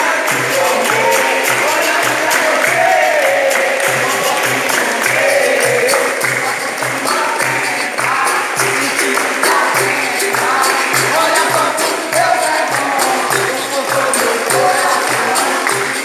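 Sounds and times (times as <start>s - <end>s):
tambourine jingle: 0.0s - 16.0s
voices singing: 0.0s - 16.0s.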